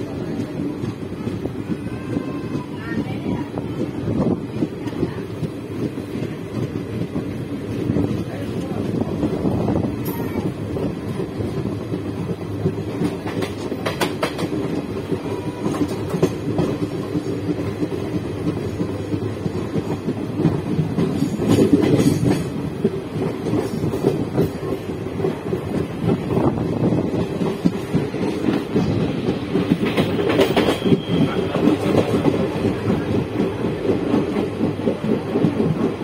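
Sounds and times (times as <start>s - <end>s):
clickety-clack over rail joints: 0.0s - 36.0s
train wheels rumbling on track: 0.0s - 36.0s.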